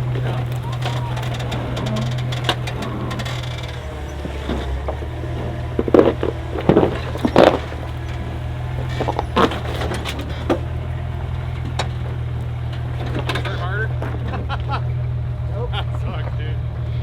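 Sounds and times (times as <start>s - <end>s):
rocks crunching under tyres: 0.0s - 15.0s
engine running at low revs: 0.0s - 17.0s.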